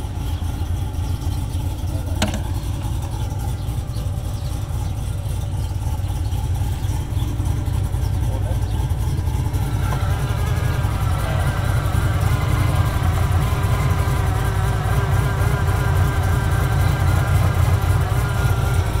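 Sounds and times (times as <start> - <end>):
car engine idling with deep rumble: 0.0 - 19.0
high-pitched engine whine: 0.0 - 19.0.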